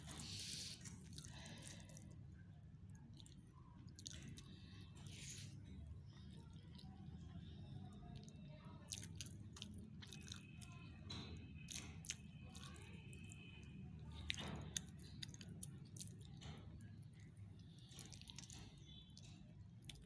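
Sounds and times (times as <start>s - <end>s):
faint chewing: 0.0s - 20.0s.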